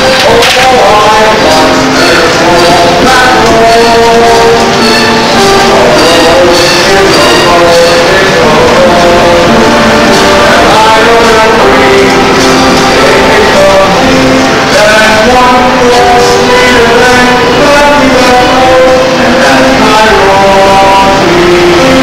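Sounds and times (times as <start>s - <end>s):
pit orchestra playing: 0.0s - 22.0s.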